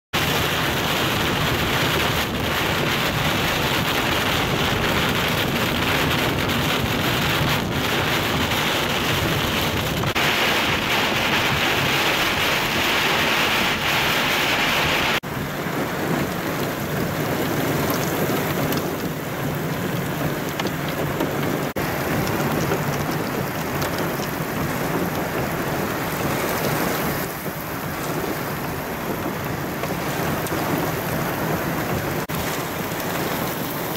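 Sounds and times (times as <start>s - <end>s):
heavy rain: 0.1s - 33.9s
high wind: 0.1s - 33.9s.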